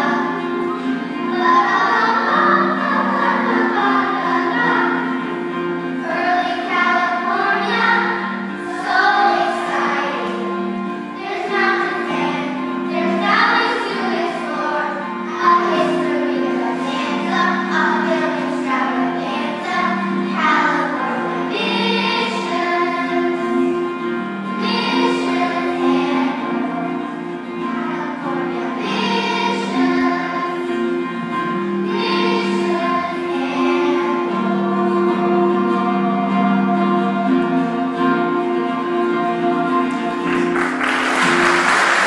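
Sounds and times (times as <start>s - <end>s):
children singing: 0.0s - 42.0s.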